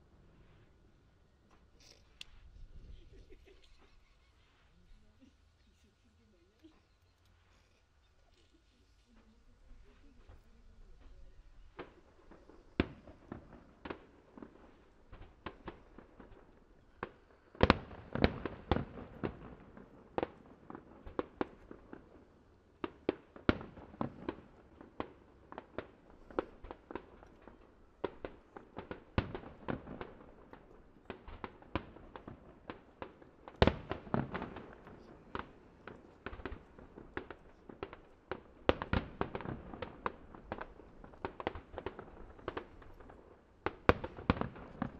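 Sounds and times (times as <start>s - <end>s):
fireworks bursting: 1.5s - 44.9s.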